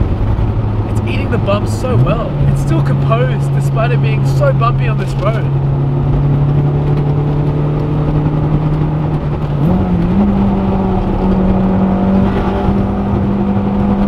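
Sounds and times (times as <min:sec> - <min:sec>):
car engine revving: 0:00.0 - 0:14.0
road rumble: 0:00.0 - 0:14.0.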